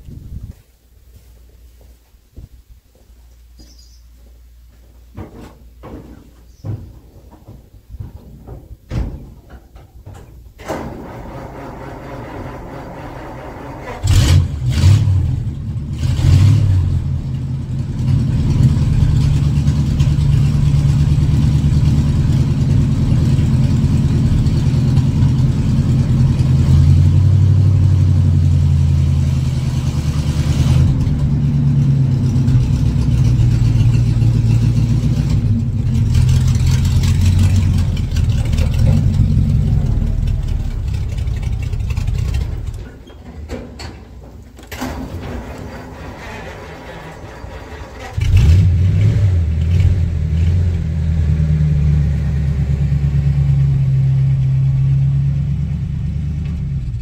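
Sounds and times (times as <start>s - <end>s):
truck engine starting and revving: 10.5s - 57.0s.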